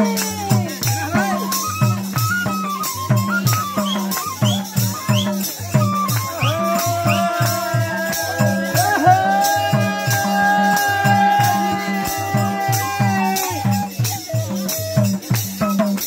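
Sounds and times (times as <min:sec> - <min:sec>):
bamboo flute long notes: 0:00.0 - 0:15.3
drum beating: 0:00.0 - 0:16.0
high rattling percussion: 0:00.0 - 0:16.0.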